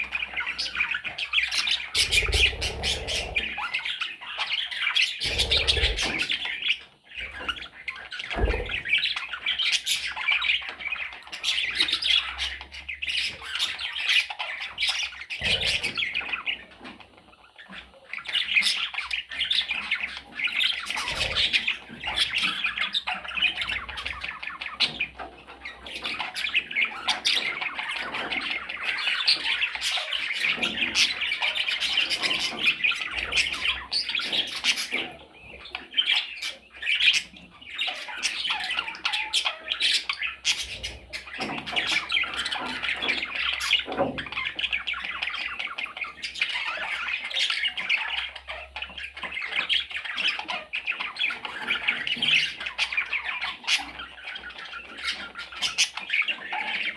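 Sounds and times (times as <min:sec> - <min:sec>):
parrots calling: 0:00.0 - 0:56.9.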